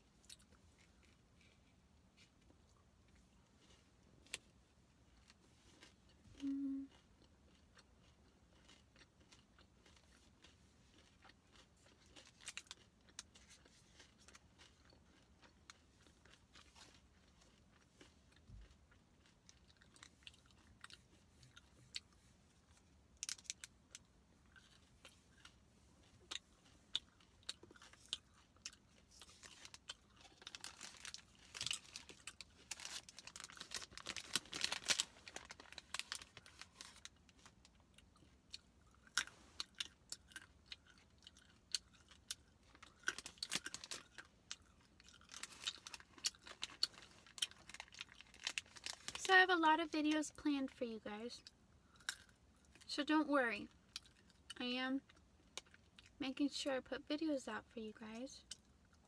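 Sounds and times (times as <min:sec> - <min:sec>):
chewing crunchy bar: 0:00.2 - 0:49.3, 0:51.4 - 0:52.9, 0:53.6 - 0:56.2.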